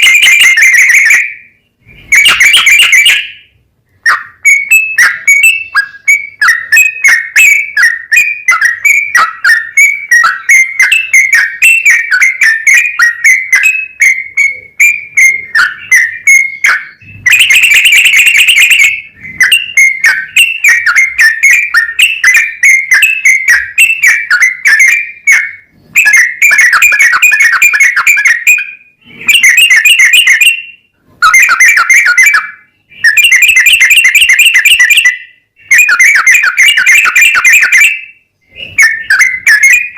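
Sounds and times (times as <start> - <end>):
bird singing chattering whistles: 0.0 - 39.9.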